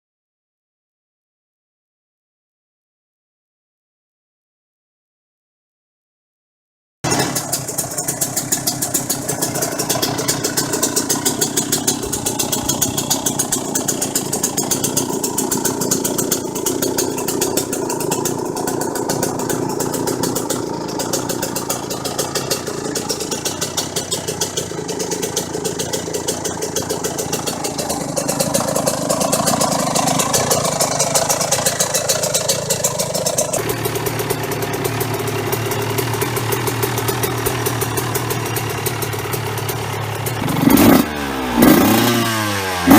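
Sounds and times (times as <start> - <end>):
lower-pitched motorcycle engine: 7.0 - 42.9
two-stroke motorcycle engine idling: 7.0 - 42.9.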